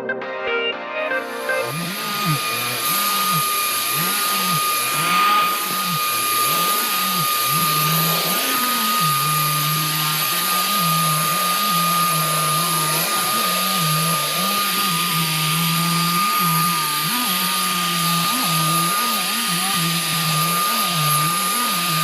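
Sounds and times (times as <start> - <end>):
vacuum cleaner running: 1.1 - 22.0.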